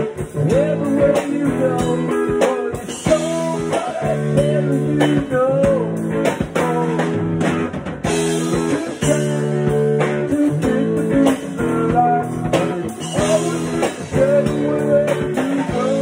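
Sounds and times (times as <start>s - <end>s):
drum kit: 0.0s - 16.0s
strummed guitar: 0.0s - 16.0s.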